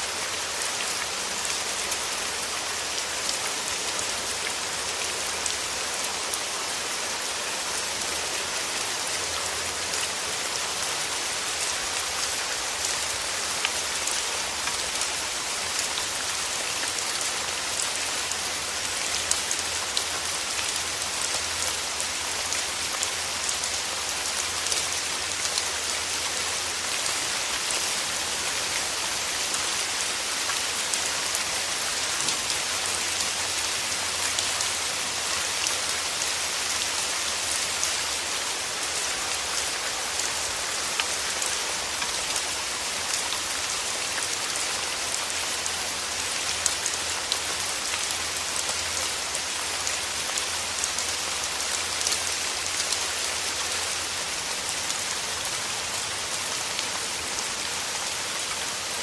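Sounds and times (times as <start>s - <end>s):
hiss of falling rain: 0.0s - 59.0s.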